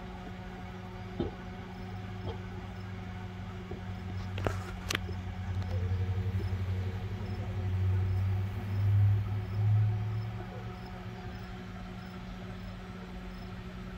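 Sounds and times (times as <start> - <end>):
microwave electrical hum: 0.0 - 13.9.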